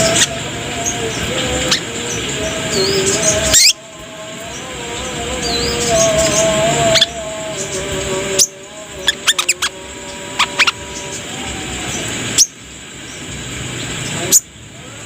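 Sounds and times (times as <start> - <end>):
hissy background: 0.0 - 15.0
sunbird song: 0.0 - 15.0.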